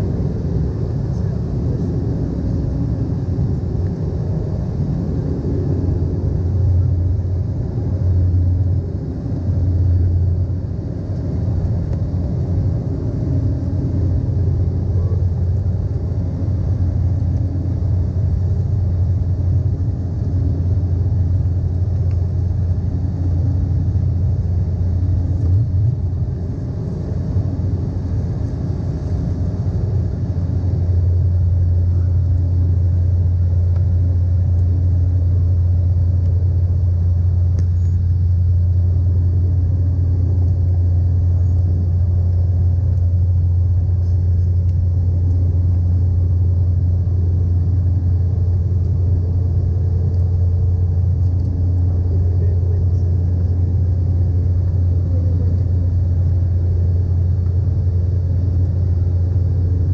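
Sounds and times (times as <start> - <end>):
jet engine drone: 0.0 - 59.9.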